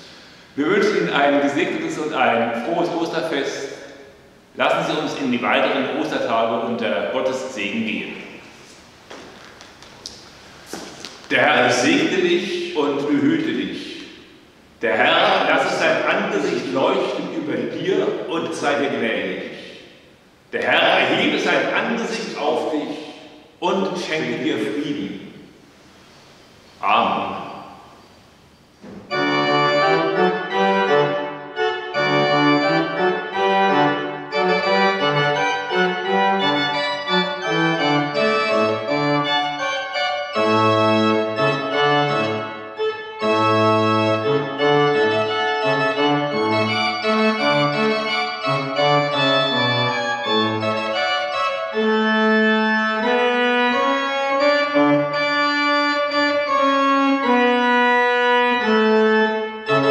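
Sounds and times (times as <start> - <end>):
pipe organ playing chords: 0.0 - 8.8, 10.1 - 59.9.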